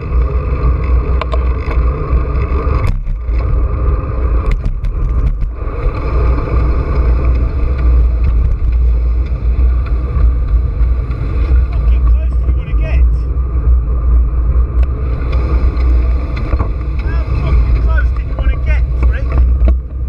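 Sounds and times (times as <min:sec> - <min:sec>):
tyre and road rumble: 0:00.0 - 0:20.0
wind buffeting microphone: 0:00.0 - 0:20.0.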